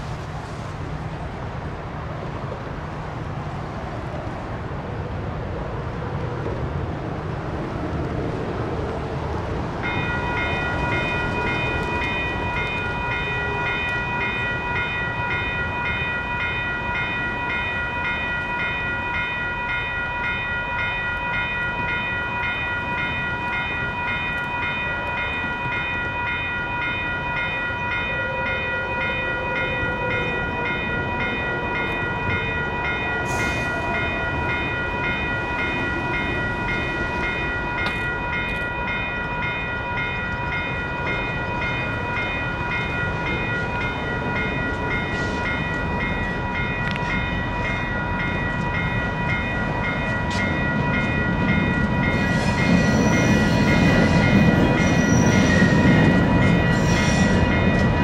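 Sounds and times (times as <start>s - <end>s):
crossing warning bell ringing: 9.8s - 58.0s.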